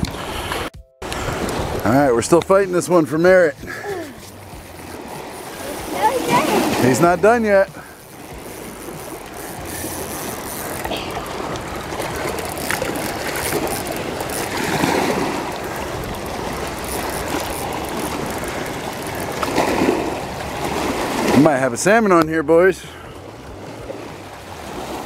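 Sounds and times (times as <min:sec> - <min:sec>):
water lapping against rocky shore: 0:00.0 - 0:25.0.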